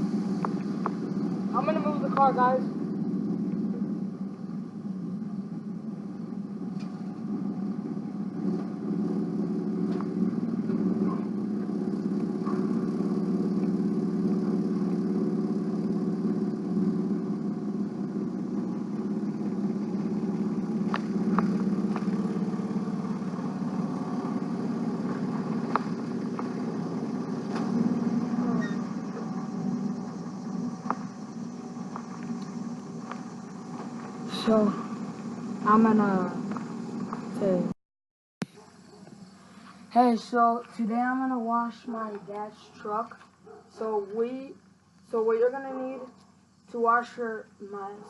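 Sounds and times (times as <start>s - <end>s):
truck engine running: 0.0s - 37.8s, 38.4s - 48.0s.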